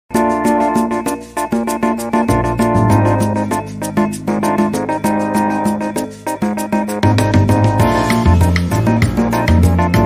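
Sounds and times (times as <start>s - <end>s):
intro music with steady beat: 0.1s - 10.0s.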